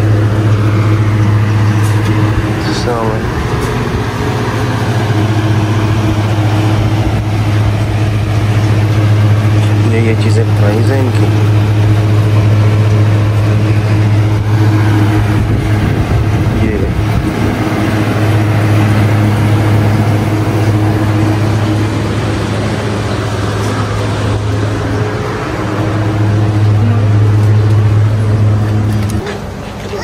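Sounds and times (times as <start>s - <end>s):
machinery humming: 0.0s - 30.0s.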